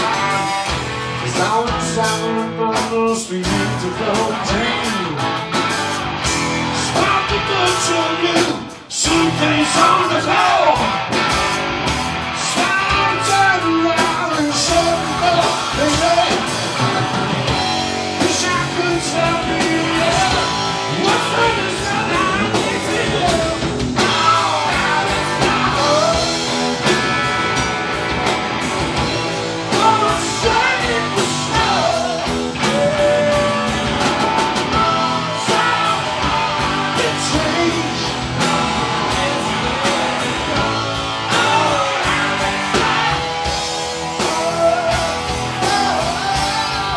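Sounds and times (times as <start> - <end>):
bass guitar: 0.0 - 46.9
drum kit: 0.0 - 46.9
electric guitars: 0.0 - 46.9.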